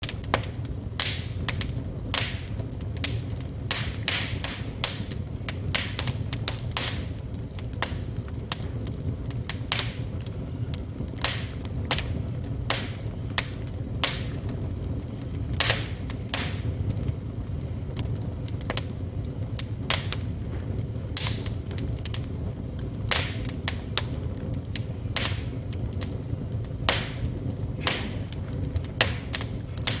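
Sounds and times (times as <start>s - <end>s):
low steady rumble: 0.0s - 30.0s
wood fire crackling and popping: 0.0s - 30.0s.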